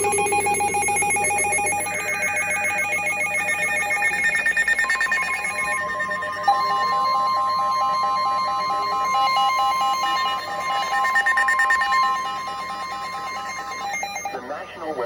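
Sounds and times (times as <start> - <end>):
two-tone attention signal: 0.0 - 15.0
warbling digital data tones: 0.0 - 15.0.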